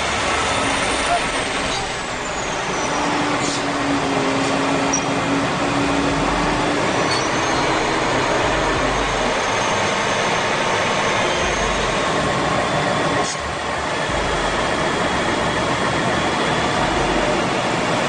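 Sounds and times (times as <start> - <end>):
heavy machinery running: 0.0 - 18.0.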